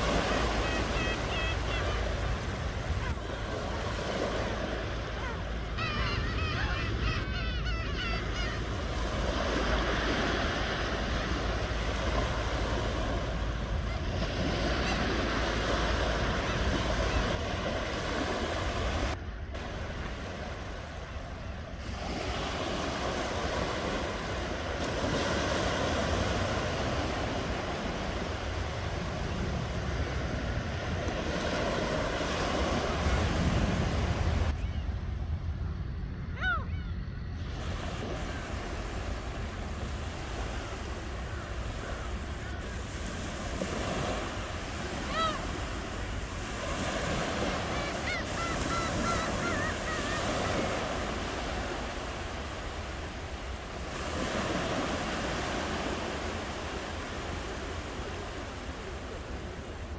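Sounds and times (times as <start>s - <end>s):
ocean waves washing onto shore: 0.0s - 34.6s, 37.4s - 59.9s.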